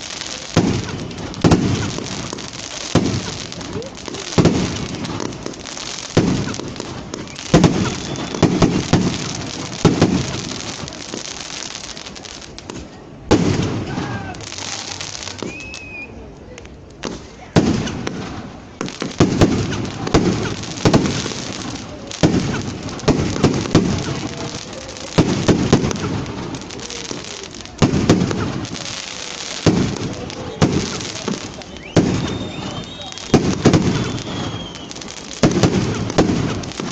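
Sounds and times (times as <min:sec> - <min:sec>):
bonfire crackling and hissing: 0:00.0 - 0:36.9.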